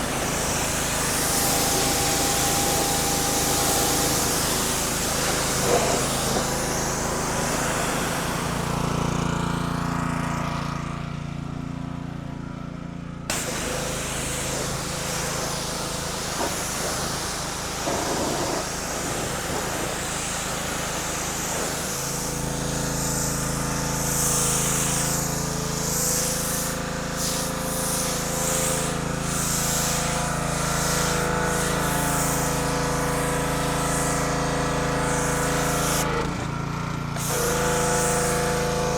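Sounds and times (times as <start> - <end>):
high-pressure water spray hiss: 0.0 - 9.1, 13.3 - 38.9
pressure washer running: 0.0 - 38.9.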